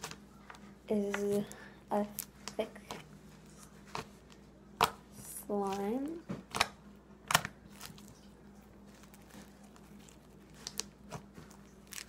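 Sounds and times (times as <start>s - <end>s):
slime being squished: 2.0s - 12.0s.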